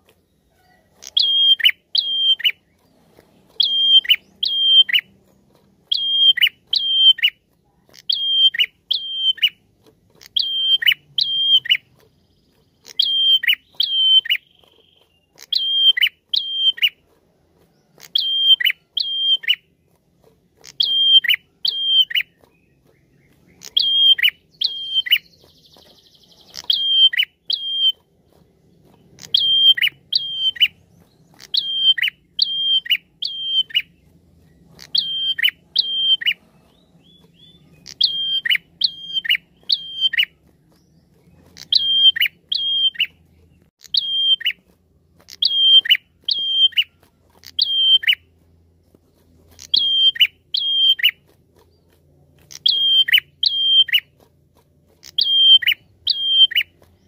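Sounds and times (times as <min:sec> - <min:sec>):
bird calling sharp clipped notes: 0:00.0 - 0:48.4, 0:49.0 - 0:57.0.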